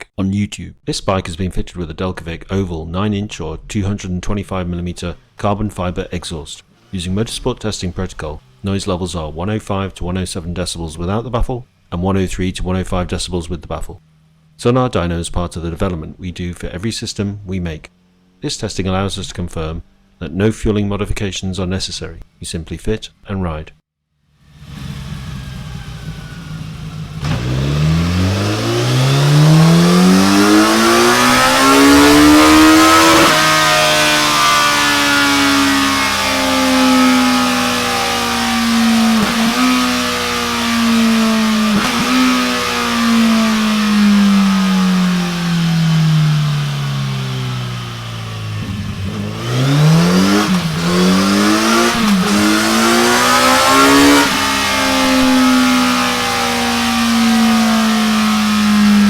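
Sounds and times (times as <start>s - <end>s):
motorcycle engine revving: 3.8s - 22.5s, 24.2s - 59.0s.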